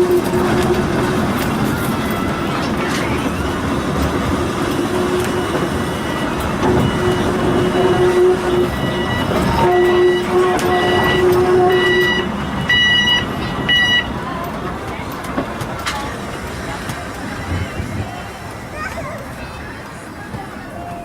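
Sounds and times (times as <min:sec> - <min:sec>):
railway car rumbling on track: 0:00.0 - 0:21.0.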